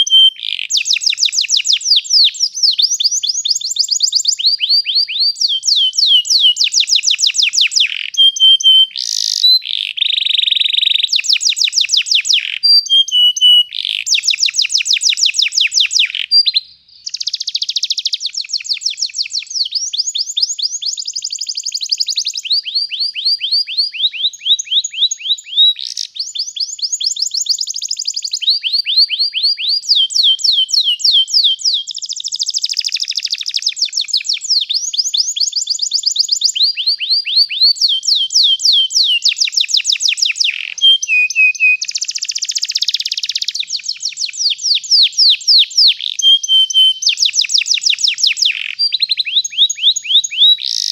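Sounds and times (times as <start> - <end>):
canary singing rapid trills: 0.0 - 50.9.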